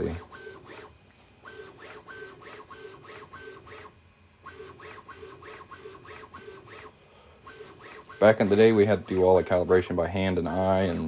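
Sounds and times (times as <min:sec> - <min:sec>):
stepper motor short tones: 0:00.0 - 0:11.0.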